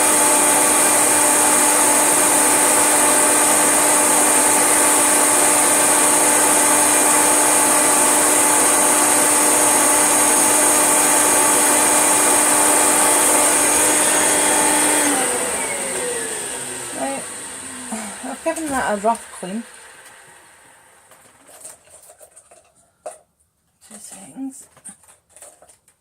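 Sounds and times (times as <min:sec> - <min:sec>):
vacuum cleaner whining: 0:00.0 - 0:22.1.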